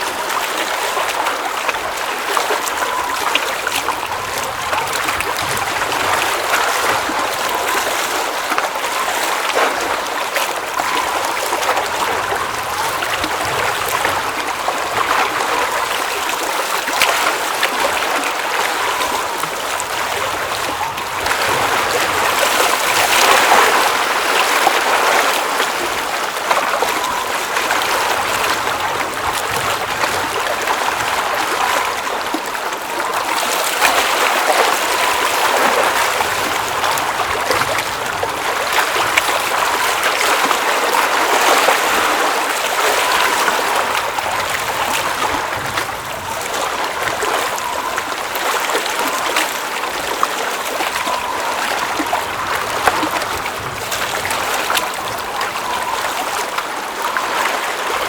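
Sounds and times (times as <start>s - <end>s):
water rushing and trickling: 0.0s - 58.0s.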